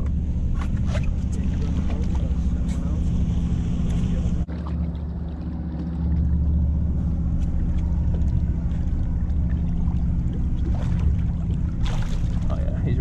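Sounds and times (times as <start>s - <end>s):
boat engine idling: 0.0s - 13.0s
water splashing against hull: 0.0s - 13.0s.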